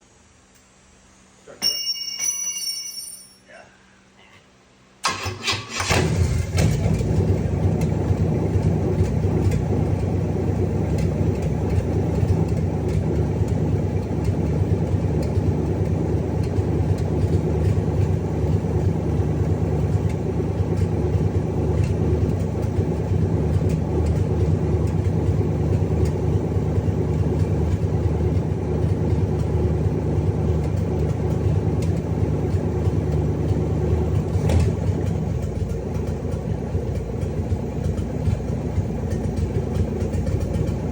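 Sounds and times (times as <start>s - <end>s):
engine idling: 5.0s - 40.9s.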